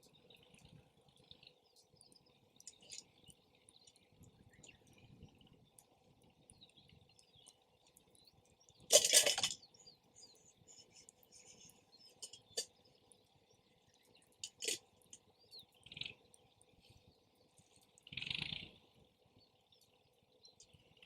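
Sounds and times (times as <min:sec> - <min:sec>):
campfire crackling: 0:00.0 - 0:18.2.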